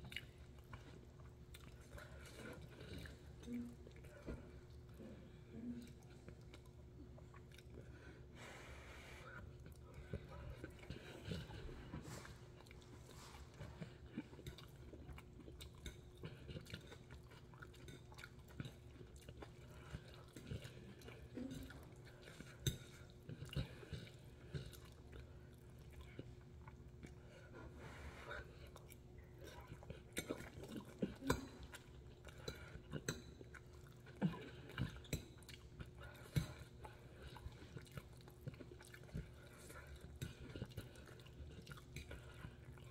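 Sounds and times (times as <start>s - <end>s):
faint chewing: 0.0s - 42.9s.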